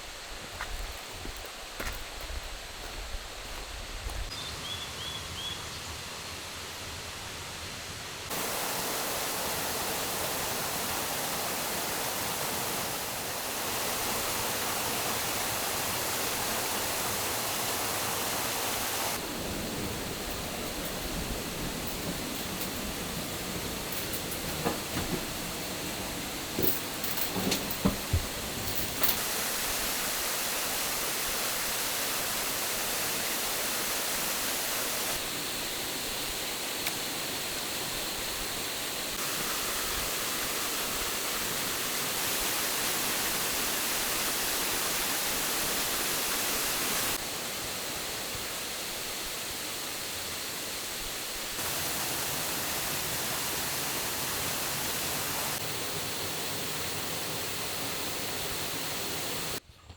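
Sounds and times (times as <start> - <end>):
waterfall rushing: 7.8 - 59.6.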